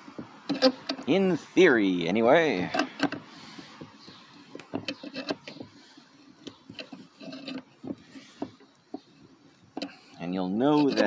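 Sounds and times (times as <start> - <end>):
clamp clicking and scraping: 0.0 - 1.2, 2.6 - 11.0.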